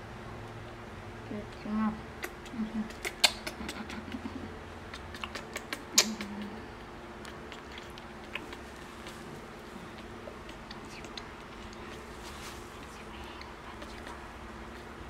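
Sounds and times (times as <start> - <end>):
monkey sucking fingers: 2.2 - 14.9.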